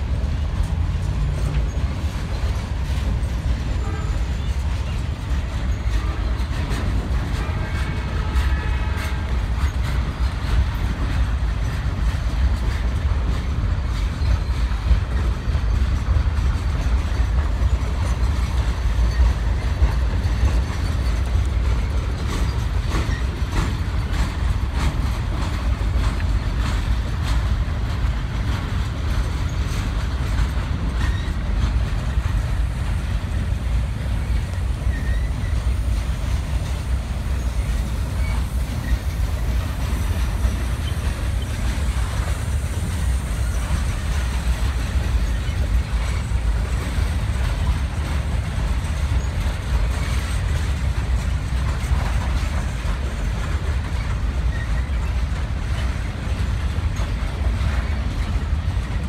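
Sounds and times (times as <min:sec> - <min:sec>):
train wheels rumbling on rail: 0:00.0 - 0:59.0
wheels clicking over rail joints: 0:00.0 - 0:59.0.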